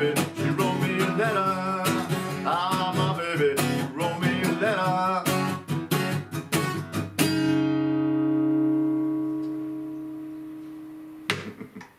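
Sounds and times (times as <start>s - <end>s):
acoustic guitar strumming: 0.0s - 11.4s.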